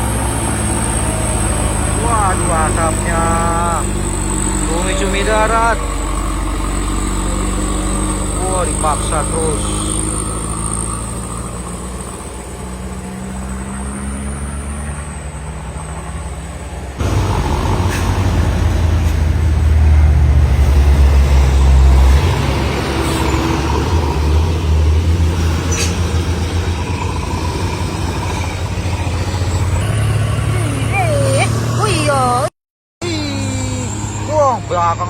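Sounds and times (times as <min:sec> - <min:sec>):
heavy diesel trucks passing: 0:00.0 - 0:35.0.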